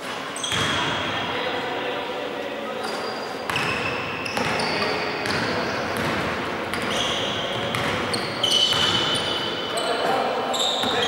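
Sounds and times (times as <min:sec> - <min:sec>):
shoes squeaking on court: 0:00.0 - 0:01.0, 0:02.8 - 0:11.0
players' voices: 0:00.0 - 0:11.0.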